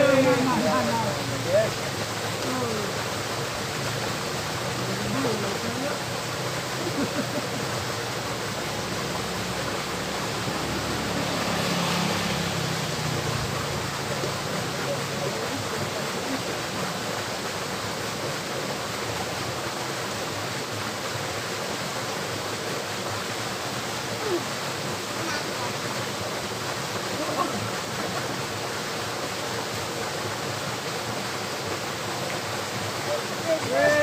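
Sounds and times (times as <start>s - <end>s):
water flowing in a stream: 0.0s - 34.0s.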